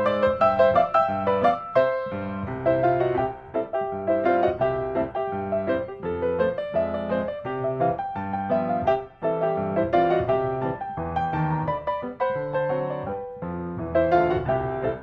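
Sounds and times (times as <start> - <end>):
bright piano melody: 0.0 - 15.0.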